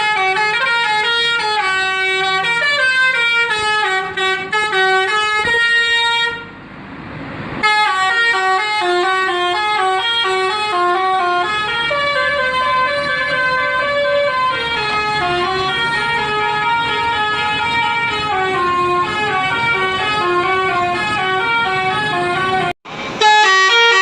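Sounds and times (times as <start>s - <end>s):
musical bus horn playing a tune: 0.0s - 6.6s, 7.6s - 24.0s.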